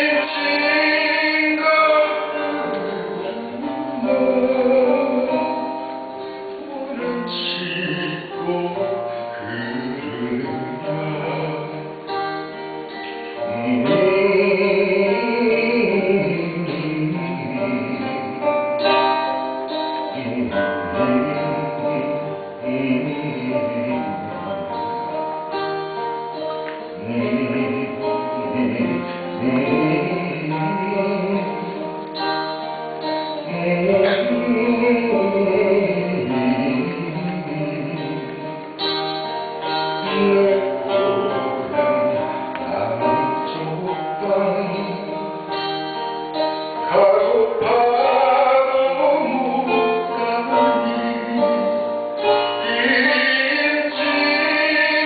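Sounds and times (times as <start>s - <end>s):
strummed acoustic guitar: 0.0s - 55.0s
voices singing slow melody: 0.0s - 55.0s.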